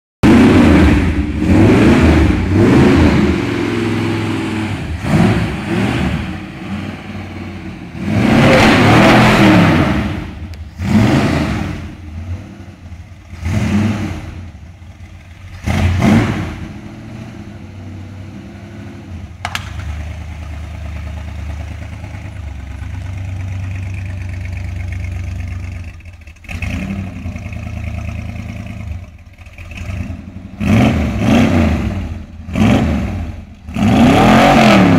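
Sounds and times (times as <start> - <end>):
car engine revving: 0.2 - 34.9.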